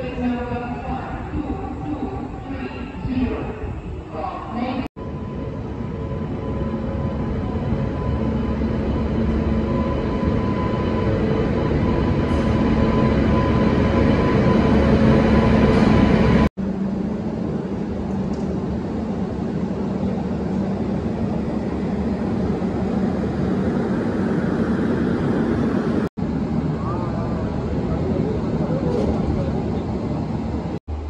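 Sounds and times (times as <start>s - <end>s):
train rumble and hum: 0.0s - 31.0s.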